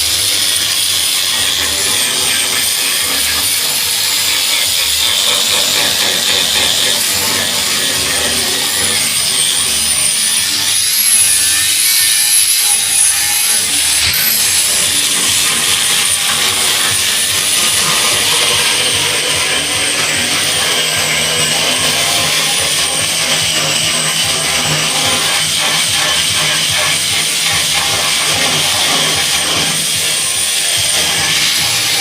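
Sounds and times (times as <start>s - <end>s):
power sander whining on wood: 0.0s - 32.0s.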